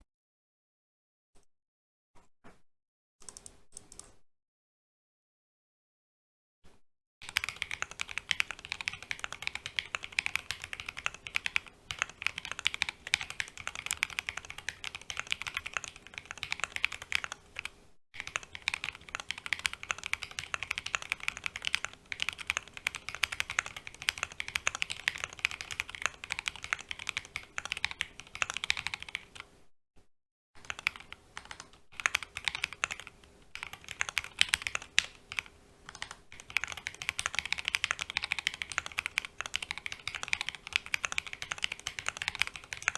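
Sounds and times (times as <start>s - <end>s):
mechanical keyboard typing: 7.2s - 29.5s, 30.6s - 42.9s.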